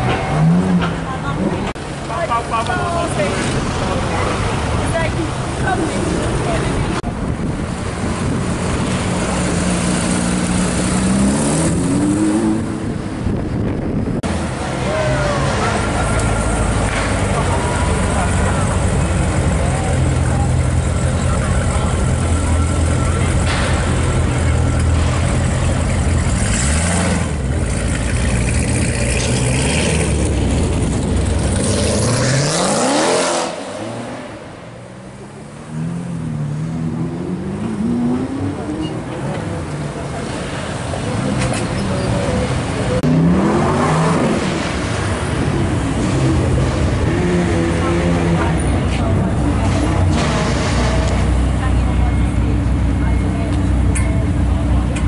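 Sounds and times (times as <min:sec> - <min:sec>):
car engine rumbling and revving: 0:00.0 - 0:55.0
another car engine: 0:03.2 - 0:55.0.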